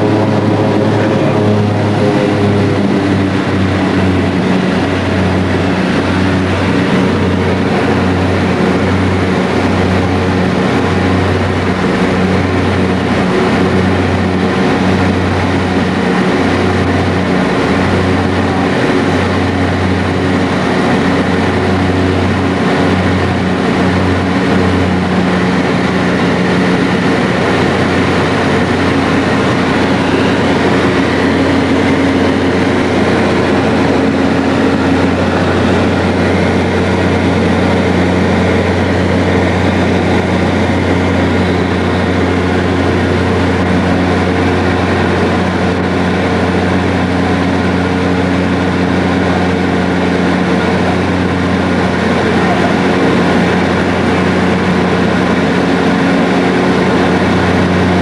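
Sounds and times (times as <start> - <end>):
plane engine and propeller: 0.0 - 58.0.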